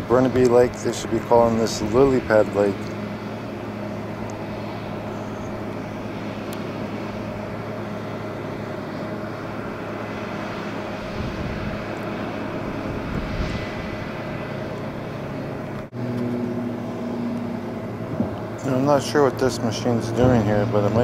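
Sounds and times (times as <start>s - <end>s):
distant engine drone: 0.0s - 21.0s
low rumble: 0.0s - 21.0s.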